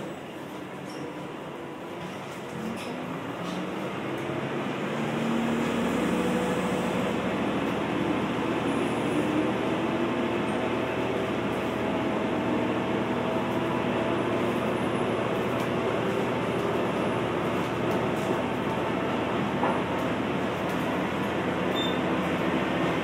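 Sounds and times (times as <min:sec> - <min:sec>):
diesel railcar engine accelerating: 0:00.0 - 0:23.0.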